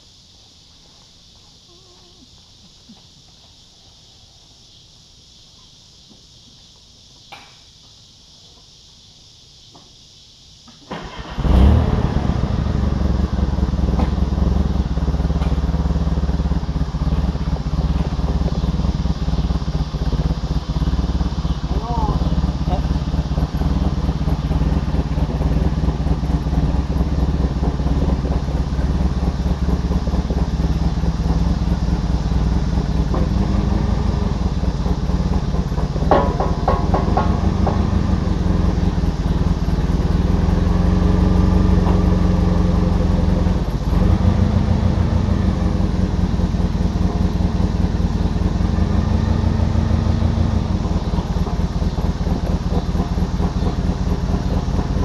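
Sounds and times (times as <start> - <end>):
forklift engine running: 10.9 - 55.0.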